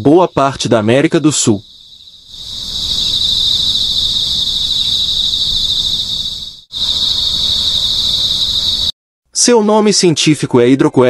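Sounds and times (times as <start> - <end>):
insects buzzing: 0.0 - 9.0.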